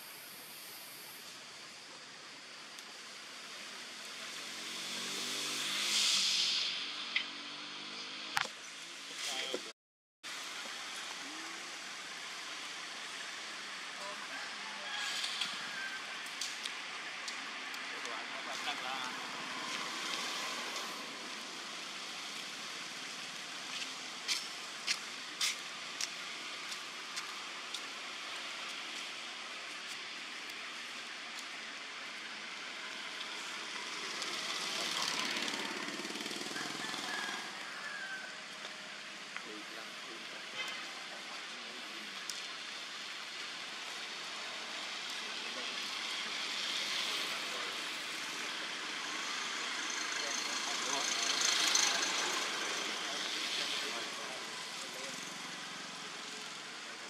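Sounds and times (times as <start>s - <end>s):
forest background hiss: 0.0s - 9.7s, 10.3s - 57.0s.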